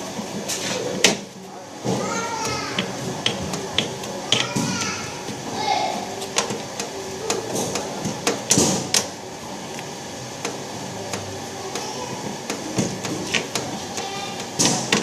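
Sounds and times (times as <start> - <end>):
hardware clicks and knocks: 0.2 - 5.5, 6.2 - 9.2, 10.4 - 15.0.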